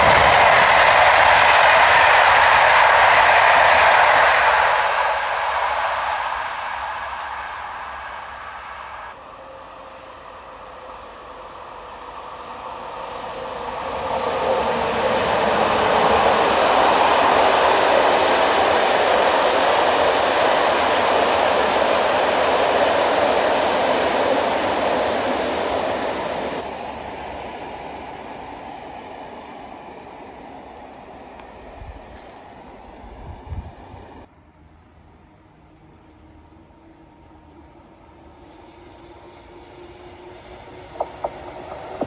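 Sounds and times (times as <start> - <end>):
distant train: 0.0 - 42.0
train passing at speed: 0.0 - 42.0.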